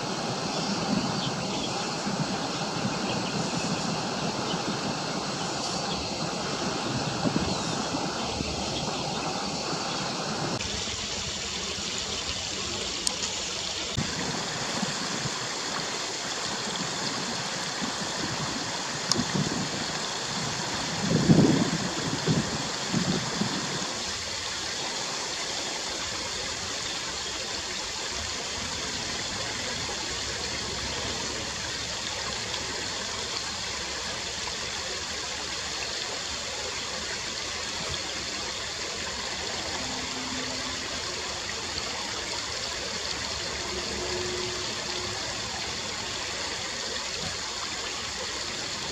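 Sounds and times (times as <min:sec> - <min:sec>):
creek water running over stones: 0:00.0 - 0:48.9.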